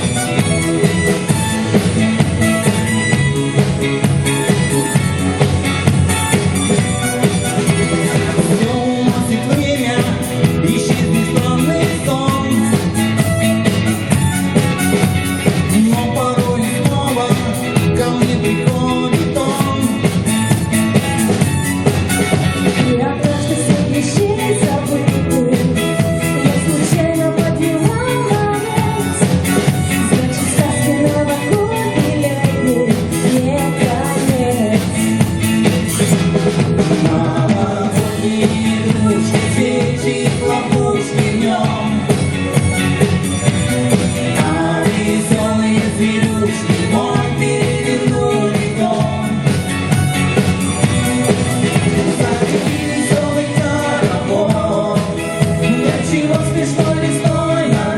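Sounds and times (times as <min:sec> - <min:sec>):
person singing: 0:00.0 - 0:05.4, 0:06.1 - 0:42.6, 0:44.1 - 0:49.7, 0:51.2 - 0:57.9
pop-rock band playing: 0:00.0 - 0:57.9.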